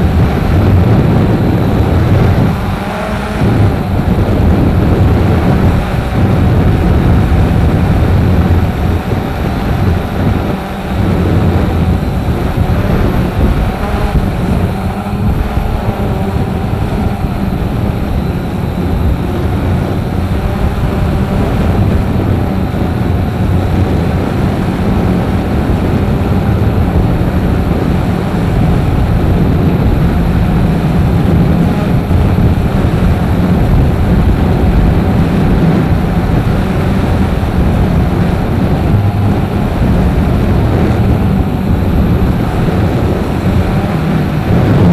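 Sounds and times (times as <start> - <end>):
strong wind buffeting microphone: 0.0 - 44.9.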